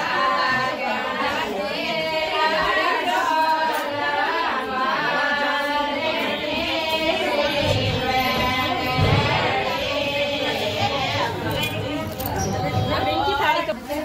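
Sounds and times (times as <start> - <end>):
women singing together: 0.0 - 14.0.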